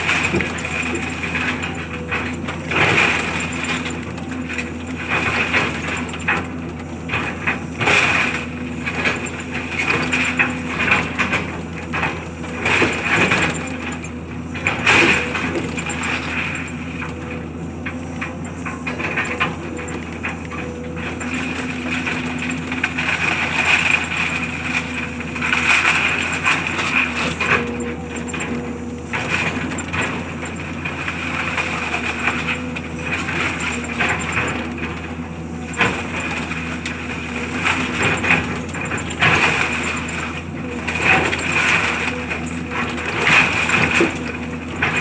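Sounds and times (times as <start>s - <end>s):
heavy machinery engine running: 0.0s - 45.0s.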